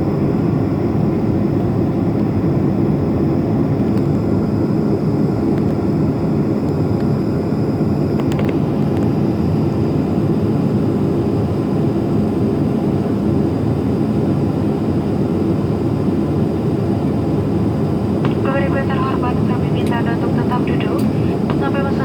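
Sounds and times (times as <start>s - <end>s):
jet cabin rumble: 0.0s - 22.0s.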